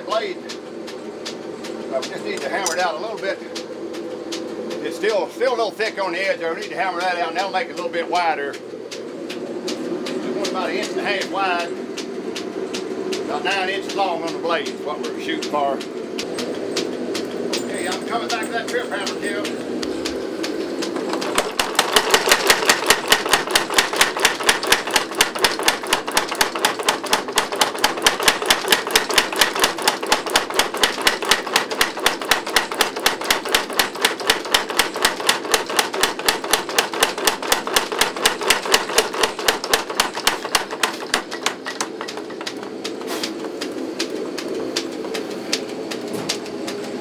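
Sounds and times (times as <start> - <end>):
power hammer pounding hot steel: 0.0 - 47.0.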